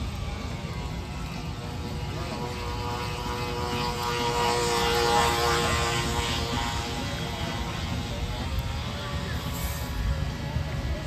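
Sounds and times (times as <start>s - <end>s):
model boat motor whining: 0.0s - 10.6s.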